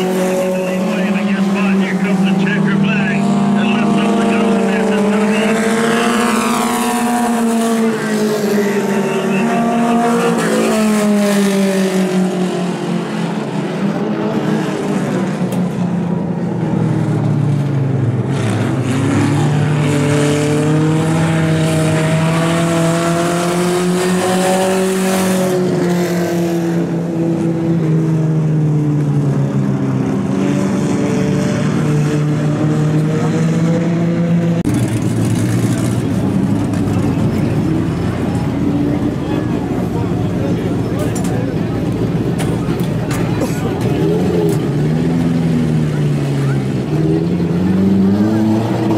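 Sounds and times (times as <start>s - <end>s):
race car engines: 0.0s - 48.9s.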